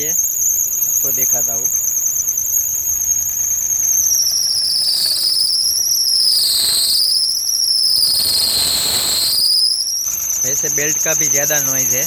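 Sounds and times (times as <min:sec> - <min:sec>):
drive belt squealing: 0:00.0 - 0:12.0.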